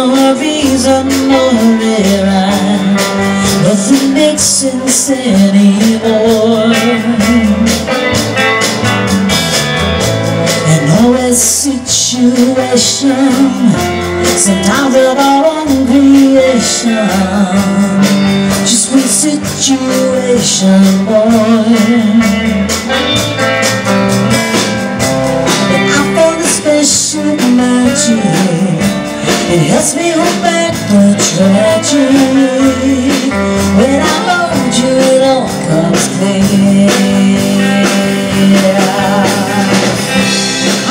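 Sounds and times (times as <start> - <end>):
woman singing: 0.0 - 8.2, 10.5 - 23.2, 25.5 - 40.9
drum kit with cymbals: 0.0 - 40.9
electric guitar: 0.0 - 40.9.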